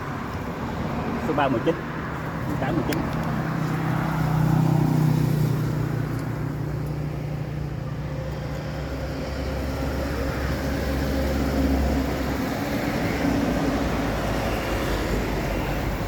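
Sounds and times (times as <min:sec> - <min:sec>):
passing traffic engine hum: 0:00.0 - 0:16.0.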